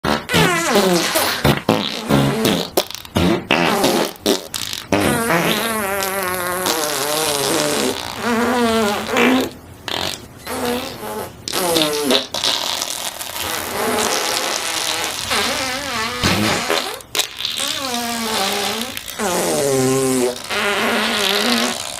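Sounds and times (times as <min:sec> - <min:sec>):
fart sound effects: 0:00.0 - 0:21.9.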